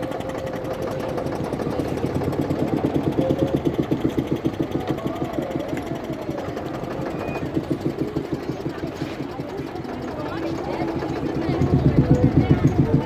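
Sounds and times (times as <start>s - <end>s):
motorboat engine pulsing: 0.0s - 13.0s.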